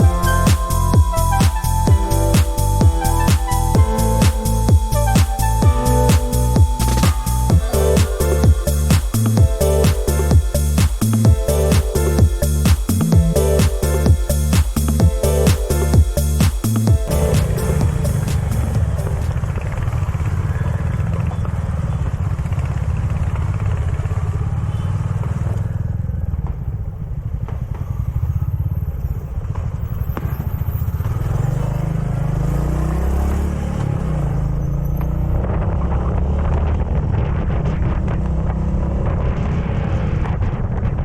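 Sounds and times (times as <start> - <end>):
motorcycle engine running: 0.0 - 41.0
road noise: 0.0 - 41.0.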